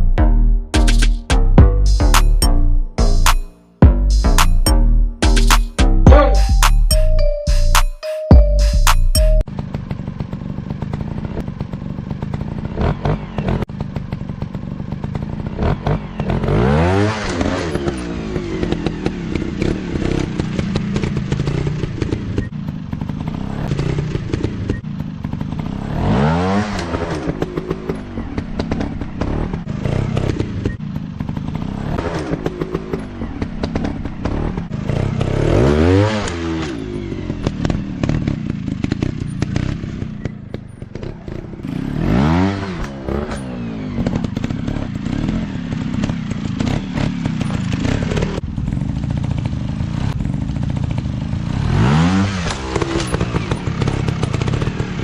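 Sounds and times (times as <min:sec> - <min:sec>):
dirt bike engine revving: 0:09.5 - 0:55.0.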